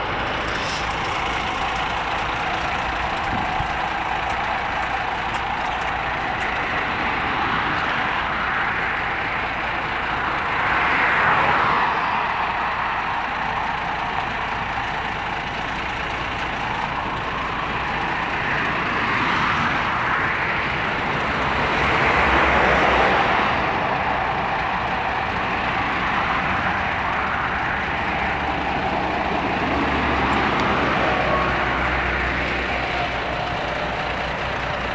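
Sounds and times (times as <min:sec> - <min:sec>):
truck engine rumble: 0:00.0 - 0:34.9
vehicles passing: 0:00.0 - 0:34.9.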